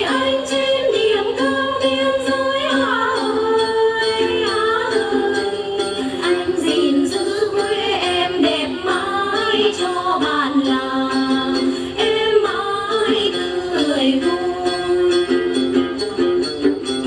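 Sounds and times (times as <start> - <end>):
woman singing: 0.0 - 15.6
plucked lutes: 0.0 - 17.0.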